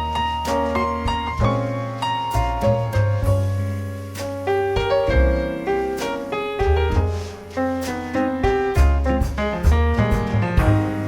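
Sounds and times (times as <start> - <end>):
piano-led keyboard music: 0.0 - 11.0
steady bass line: 0.0 - 11.0.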